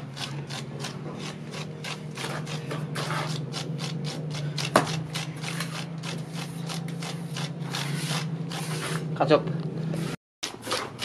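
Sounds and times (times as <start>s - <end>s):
hand tool scraping cement: 0.0s - 9.2s, 9.9s - 11.0s.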